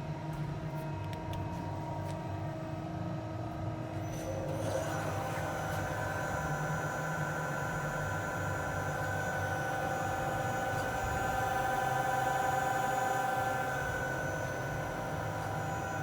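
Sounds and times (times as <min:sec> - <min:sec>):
lathe whine over low hum: 0:02.5 - 0:16.0.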